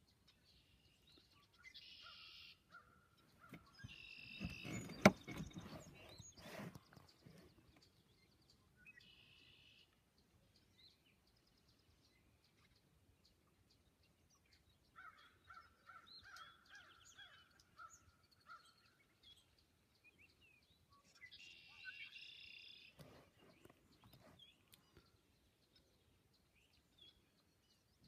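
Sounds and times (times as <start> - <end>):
blackbirds singing and calling: 0.1 - 28.0.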